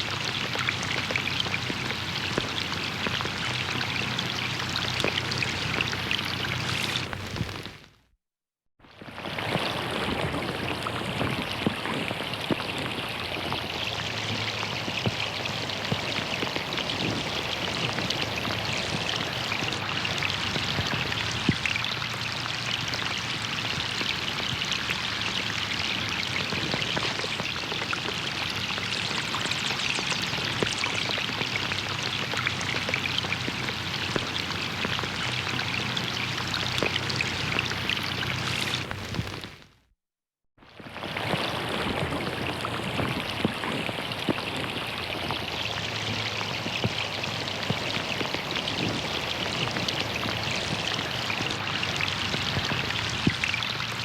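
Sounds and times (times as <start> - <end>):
rain hissing on water: 0.0 - 7.9, 9.0 - 39.7, 40.8 - 54.0.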